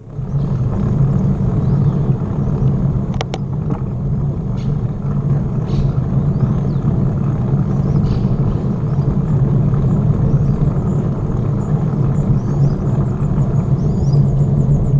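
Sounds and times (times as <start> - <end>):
bicycle tyre noise: 0.0 - 14.9
wind rumble on microphone: 0.0 - 14.9.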